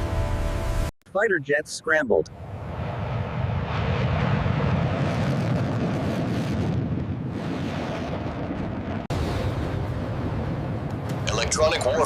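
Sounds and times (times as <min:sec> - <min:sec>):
fighter jet engines roaring: 0:02.3 - 0:12.0.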